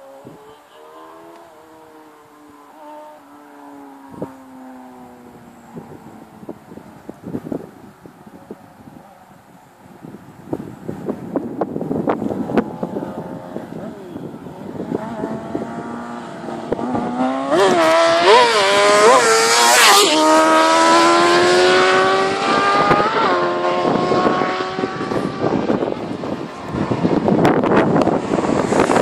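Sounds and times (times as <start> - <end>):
motorcycle engine revving: 0.0 - 7.6, 11.0 - 29.0.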